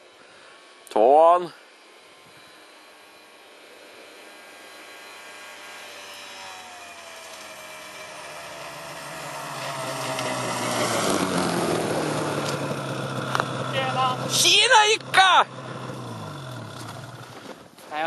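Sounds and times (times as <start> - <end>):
snowmobile engine approaching: 0.0 - 18.0.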